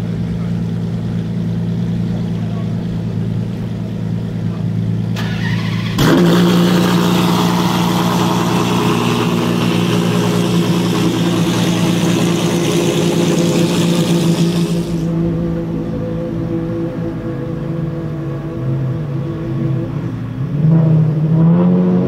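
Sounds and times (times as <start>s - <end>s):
sports car engine running: 0.0s - 21.5s.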